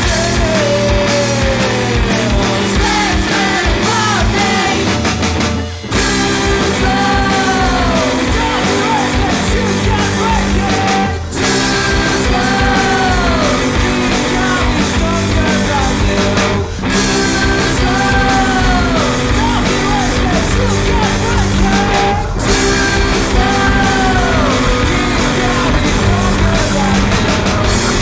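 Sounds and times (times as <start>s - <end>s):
rock song with singing: 0.0s - 28.0s.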